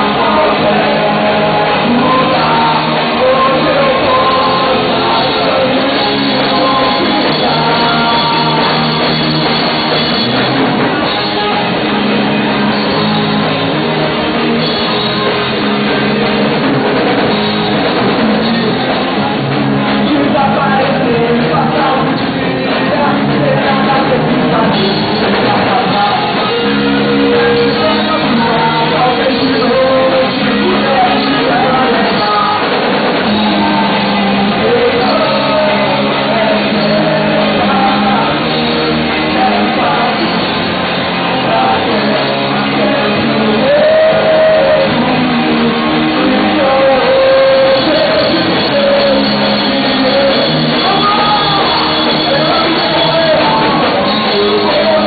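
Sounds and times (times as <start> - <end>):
rock song with sung vocals: 0.0 - 55.0.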